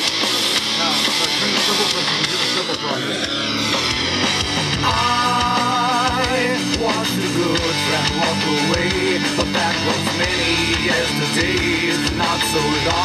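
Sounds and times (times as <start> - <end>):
rock song through small speaker: 0.0 - 13.0.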